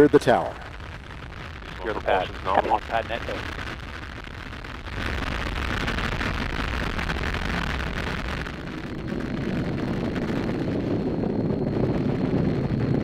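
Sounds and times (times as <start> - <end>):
rocket engines rumbling: 0.0 - 13.0.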